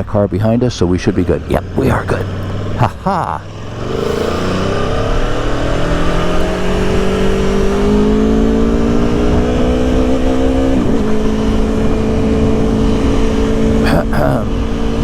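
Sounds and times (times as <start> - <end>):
motorcycle engine accelerating: 1.6 - 15.0.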